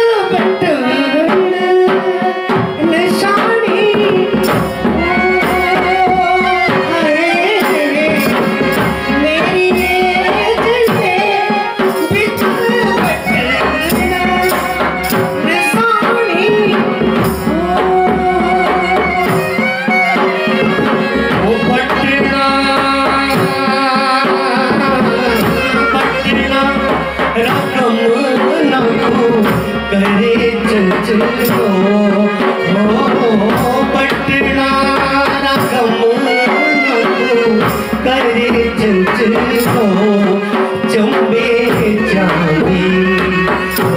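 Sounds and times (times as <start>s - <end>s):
keyboard accompaniment: 0.0s - 43.9s
person singing folk song: 0.0s - 43.9s
hand drum beat: 1.3s - 27.8s, 28.4s - 43.9s.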